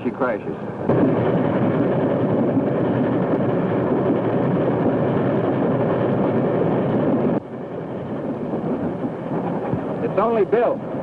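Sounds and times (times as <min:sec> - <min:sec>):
moving train rumble: 0:00.0 - 0:11.0.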